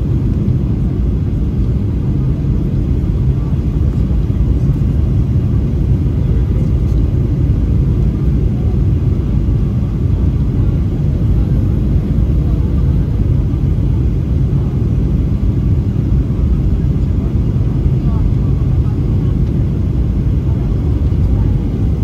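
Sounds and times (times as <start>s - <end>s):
jet engine rumble inside cabin: 0.0s - 22.0s.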